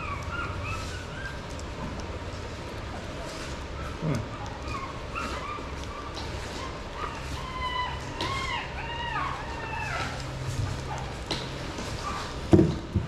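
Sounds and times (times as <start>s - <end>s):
puppy whining: 0.0s - 12.4s.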